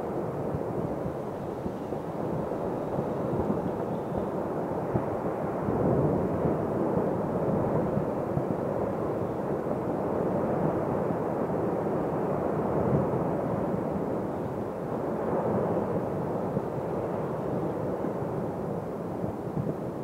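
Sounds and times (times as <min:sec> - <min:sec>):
volcano rumbling: 0:00.1 - 0:20.0.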